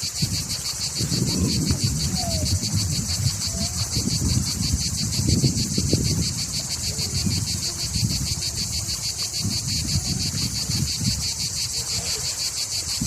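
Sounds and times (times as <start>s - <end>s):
insects trilling: 0.0s - 13.0s
wind on microphone: 0.0s - 13.0s.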